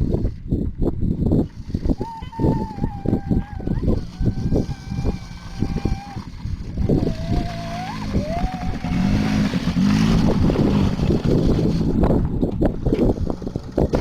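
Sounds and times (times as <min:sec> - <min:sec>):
small engine revving: 0:01.3 - 0:14.0.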